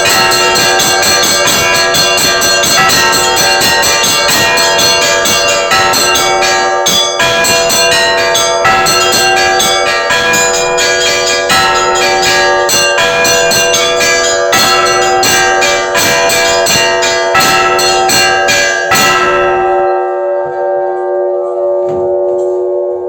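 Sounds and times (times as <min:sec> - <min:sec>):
church bells ringing: 0:00.0 - 0:23.0
rapid strikes on bells: 0:00.0 - 0:23.0.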